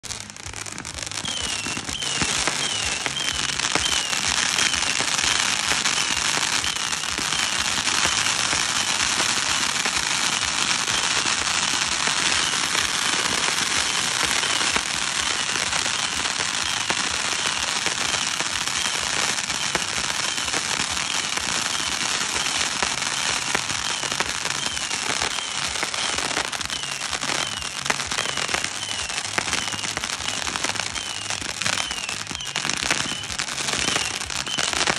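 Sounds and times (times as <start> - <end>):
fireworks crackling and popping: 0.0 - 34.9.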